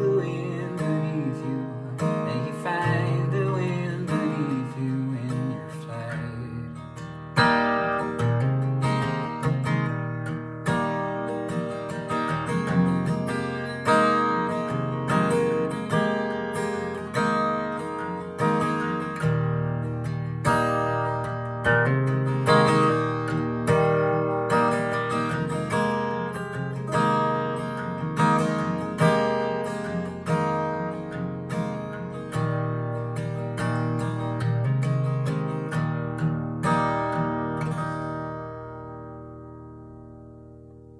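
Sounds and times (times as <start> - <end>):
acoustic guitar strumming chords: 0.0 - 40.9.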